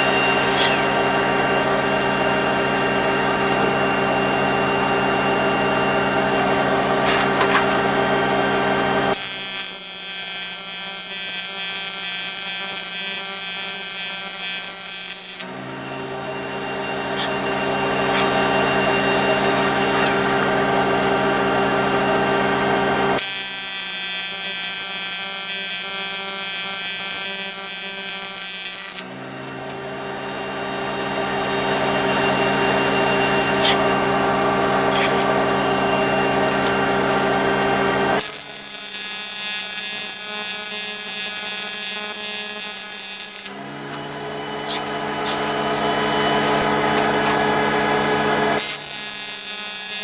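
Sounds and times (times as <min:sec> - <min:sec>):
welding arc buzzing: 0:00.0 - 0:15.7, 0:17.0 - 0:29.3, 0:30.3 - 0:50.0.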